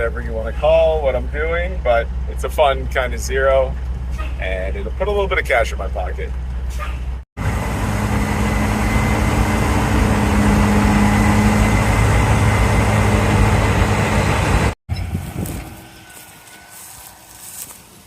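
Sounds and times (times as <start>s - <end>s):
heavy vehicle engine running: 0.0s - 18.0s
outdoor background noise: 0.0s - 18.0s.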